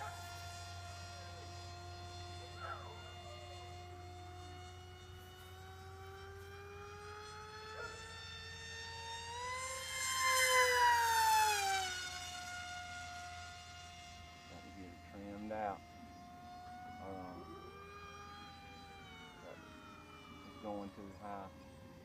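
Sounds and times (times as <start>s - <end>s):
model jet motor whine: 0.0s - 22.0s.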